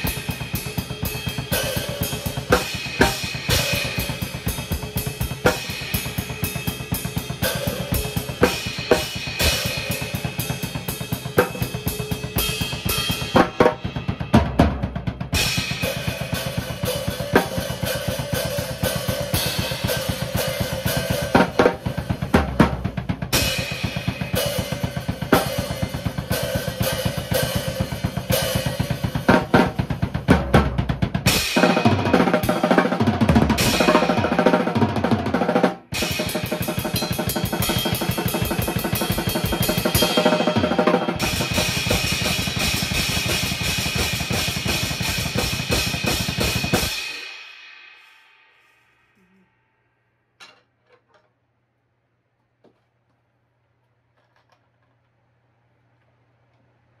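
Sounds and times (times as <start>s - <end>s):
drum kit playing fast: 0.0s - 48.2s.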